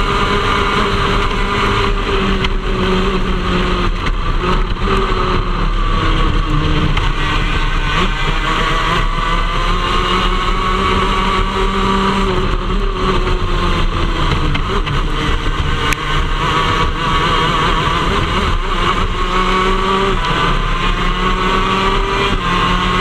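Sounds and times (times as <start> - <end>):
kart two-stroke engine running hard: 0.0 - 23.0.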